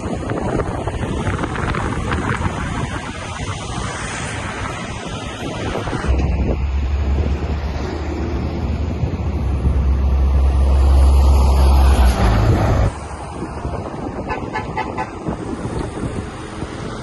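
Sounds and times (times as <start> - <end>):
highway traffic rumble: 0.0 - 17.0
outdoor background noise: 0.0 - 17.0.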